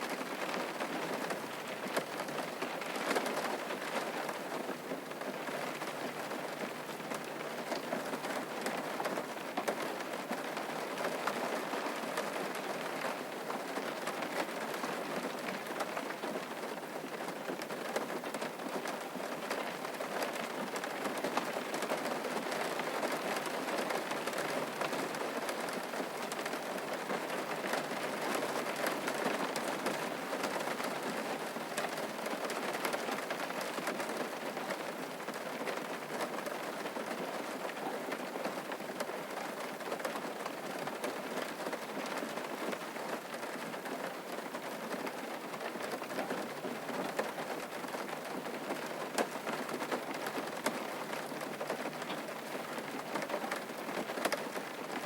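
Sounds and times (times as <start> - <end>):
rain patter: 0.0 - 55.0.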